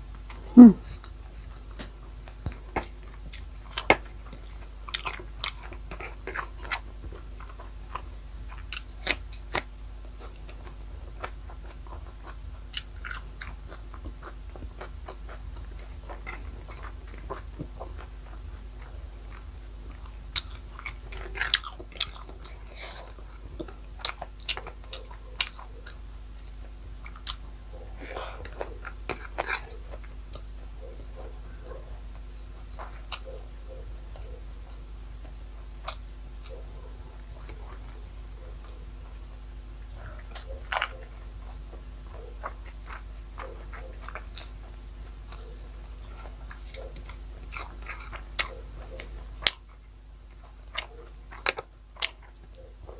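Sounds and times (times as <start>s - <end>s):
person chewing and crunching: 0.0s - 52.9s.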